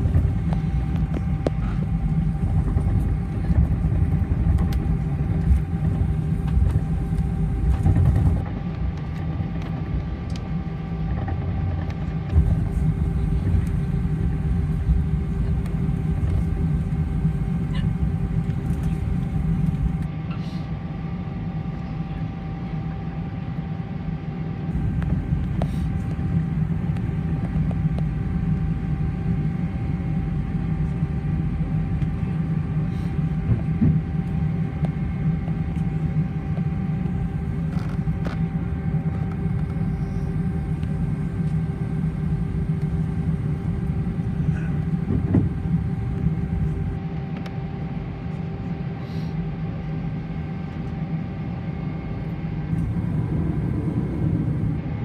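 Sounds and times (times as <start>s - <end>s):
low cabin rumble: 0.0s - 21.0s, 24.5s - 47.7s, 50.5s - 55.0s
jet engines whining at idle: 0.0s - 55.0s.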